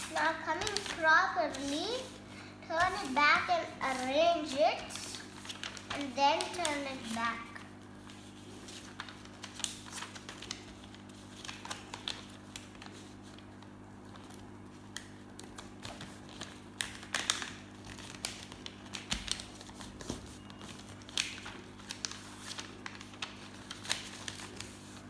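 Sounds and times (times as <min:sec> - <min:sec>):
paper folding and creasing: 0:00.0 - 0:02.2, 0:03.8 - 0:04.1, 0:04.9 - 0:25.0.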